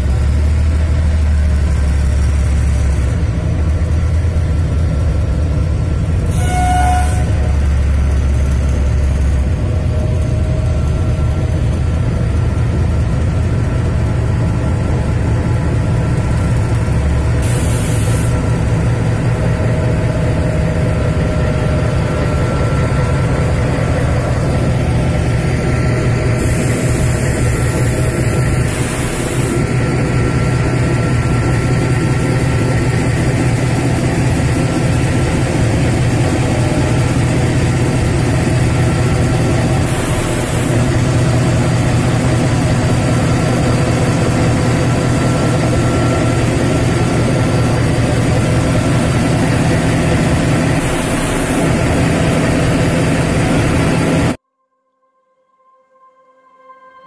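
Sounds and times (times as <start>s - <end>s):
diesel locomotive engine running: 0.0s - 54.4s.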